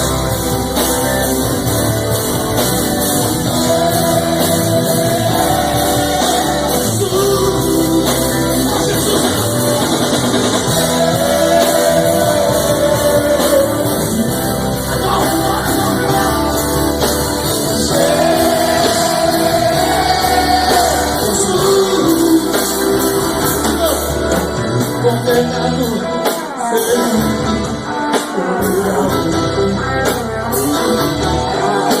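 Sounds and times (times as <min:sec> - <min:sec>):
gospel band playing: 0:00.0 - 0:32.0.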